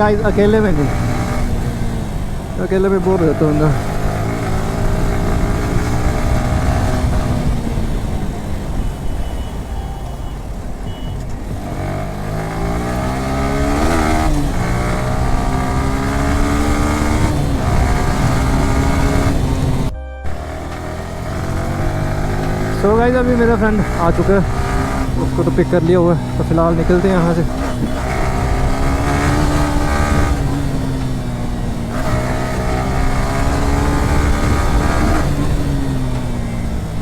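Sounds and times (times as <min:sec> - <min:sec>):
motorcycle engine accelerating: 0:00.0 - 0:37.0
wind and road noise: 0:00.0 - 0:37.0.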